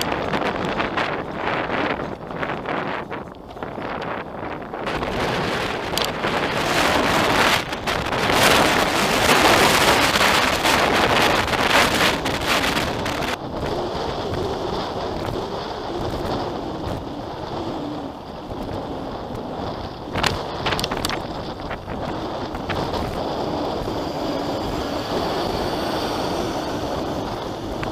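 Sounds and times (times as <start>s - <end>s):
wind blasting microphone: 0.0s - 27.9s.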